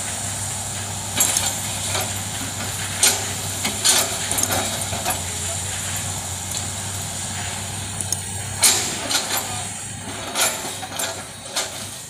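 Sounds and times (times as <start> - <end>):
excavator diesel engine drone: 0.0 - 12.0.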